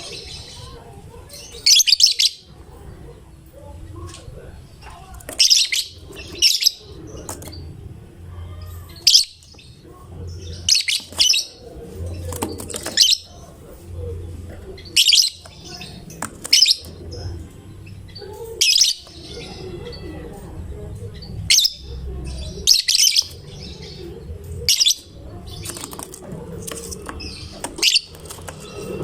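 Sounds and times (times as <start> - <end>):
soft bird chatter: 0.0 - 29.0.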